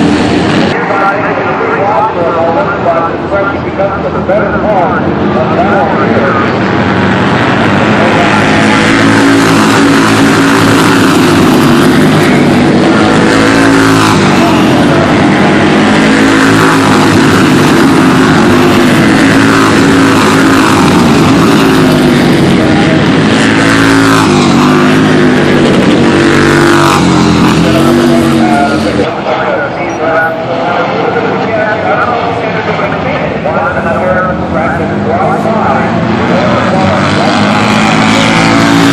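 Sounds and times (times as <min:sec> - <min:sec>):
racing motorcycles at full throttle: 0:00.0 - 0:38.9.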